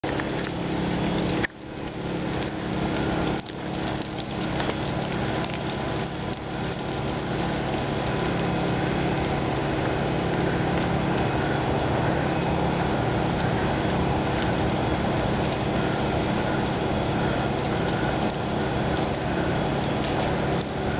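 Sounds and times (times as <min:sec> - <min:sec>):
generators running: 0:00.0 - 0:20.9.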